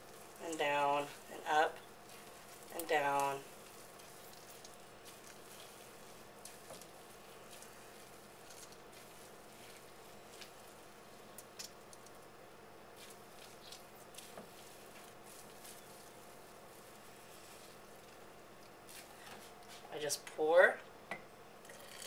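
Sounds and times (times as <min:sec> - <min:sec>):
wet squelching pulp: 0:00.0 - 0:12.3, 0:12.9 - 0:19.8
juice dripping into bowl: 0:00.0 - 0:18.8, 0:21.6 - 0:22.0
steady low hum: 0:00.0 - 0:21.8.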